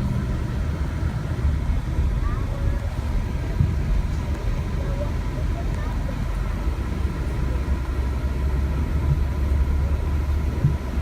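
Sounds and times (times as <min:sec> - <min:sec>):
strong wind buffeting the microphone: 0:00.0 - 0:11.0.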